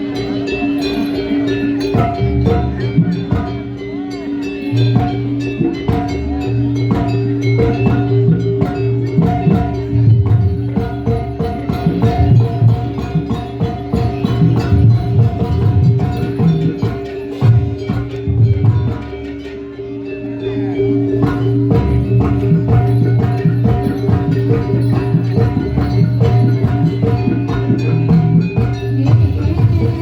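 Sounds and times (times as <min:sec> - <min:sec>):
fast drum: 0:00.0 - 0:19.7, 0:20.7 - 0:30.0
struck metal percussion: 0:00.0 - 0:30.0.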